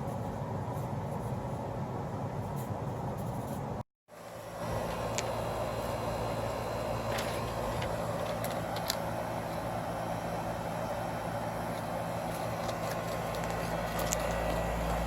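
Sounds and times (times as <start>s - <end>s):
machine running with low hum: 0.0s - 15.0s.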